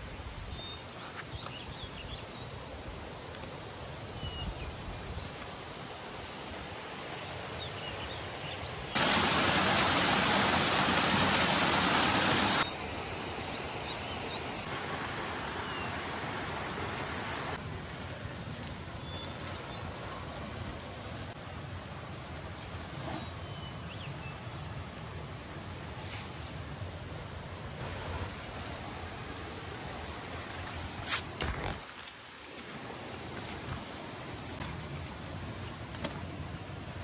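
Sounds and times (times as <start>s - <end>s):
rushing outdoor ambience: 0.0s - 37.0s.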